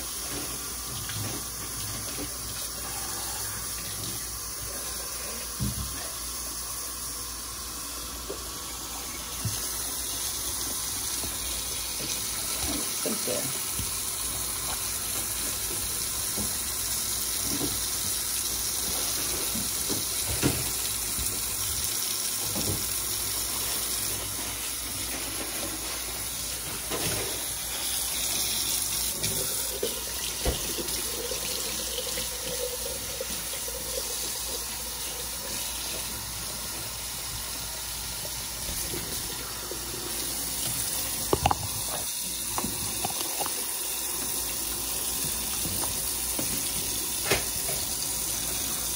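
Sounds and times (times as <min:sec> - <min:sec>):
faucet water splashing into sink: 0:07.0 - 0:48.9.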